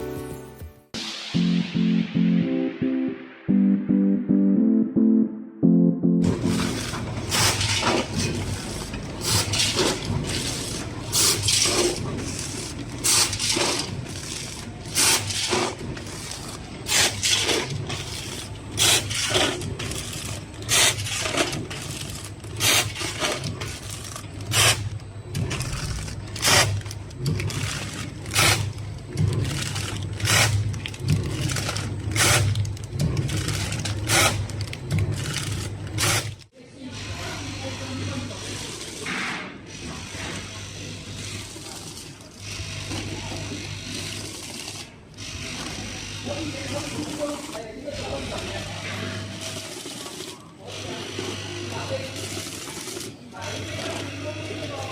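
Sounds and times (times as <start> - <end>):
packaging machine humming: 6.2 - 54.9.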